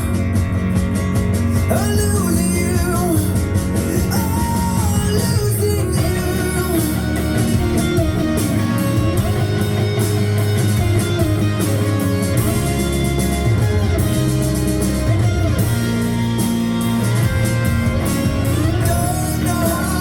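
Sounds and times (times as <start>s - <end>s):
pop-rock music from vinyl: 0.0s - 20.0s.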